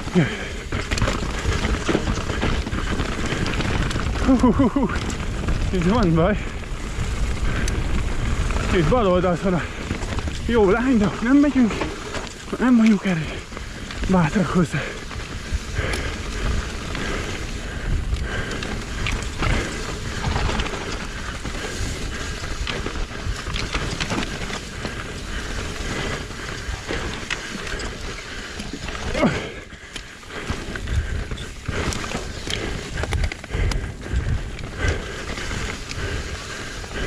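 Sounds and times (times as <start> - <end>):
bike rattling and knocking: 0.0 - 37.0
bike tyres rolling over rocks: 0.0 - 37.0.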